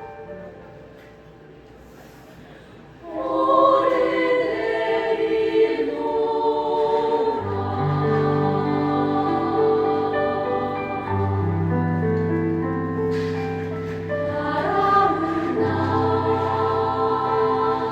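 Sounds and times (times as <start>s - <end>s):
choir singing held chords: 3.0s - 17.9s.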